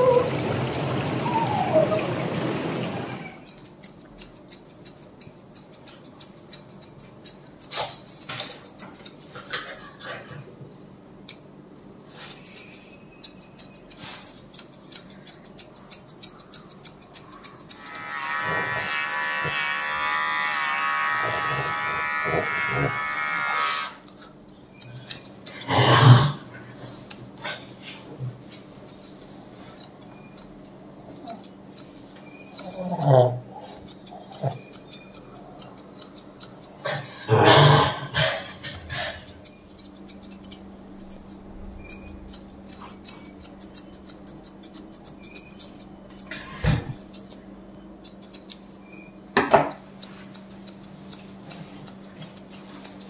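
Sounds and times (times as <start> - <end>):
scissors snipping hair: 3.4 - 9.6, 11.2 - 25.9, 28.5 - 53.0.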